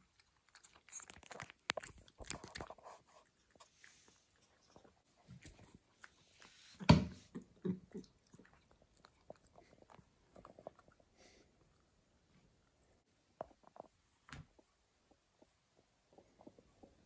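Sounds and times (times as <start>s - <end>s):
cat chewing: 0.0s - 14.0s.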